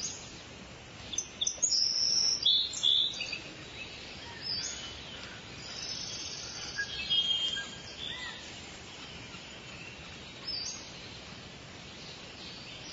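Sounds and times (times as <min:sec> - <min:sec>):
faint steady hiss: 0:00.0 - 0:12.9
birds chirping and whistling: 0:01.0 - 0:12.9.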